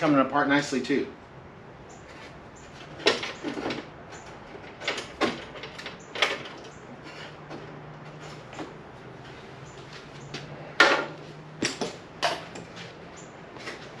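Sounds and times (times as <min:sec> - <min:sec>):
car body parts clunking and scraping: 0:01.9 - 0:14.0.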